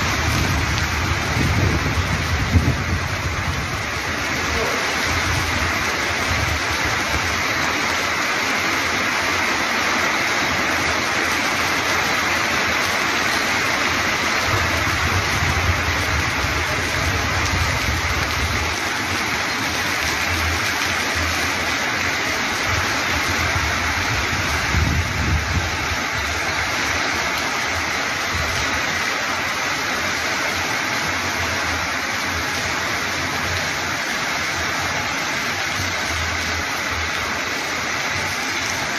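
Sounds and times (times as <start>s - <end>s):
torrential rain: 0.0s - 38.9s.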